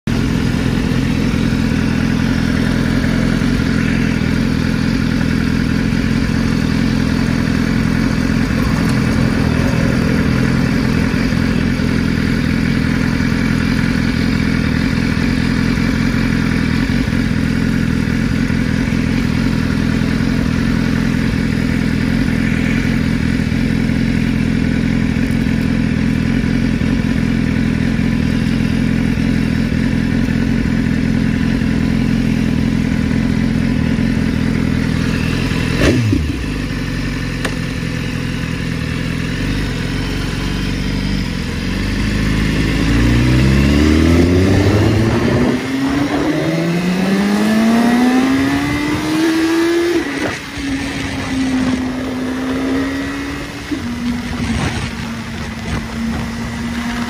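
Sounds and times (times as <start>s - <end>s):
motorcycle engine idling: 0.1s - 57.0s.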